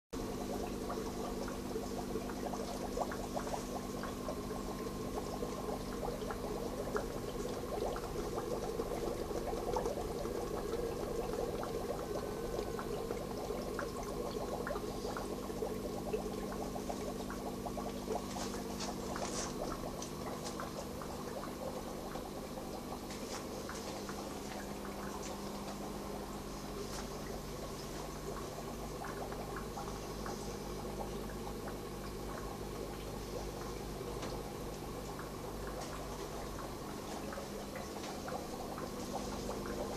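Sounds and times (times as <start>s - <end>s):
constant low hum: 0.2s - 39.9s
water trickling and dripping: 0.2s - 39.9s.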